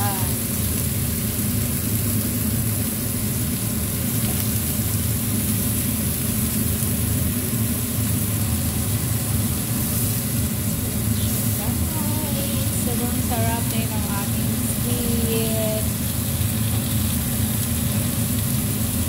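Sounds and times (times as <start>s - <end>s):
food hissing on grill pan: 0.0s - 19.0s
stovetop low hum: 0.0s - 19.0s.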